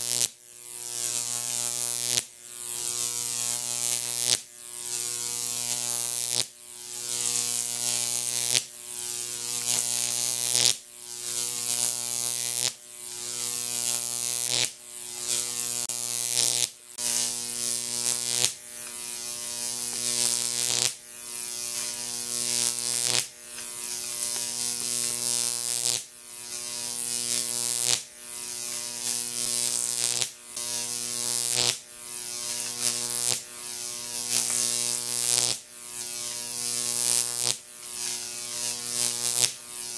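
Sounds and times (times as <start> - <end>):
electric arc buzzing: 0.0 - 39.9.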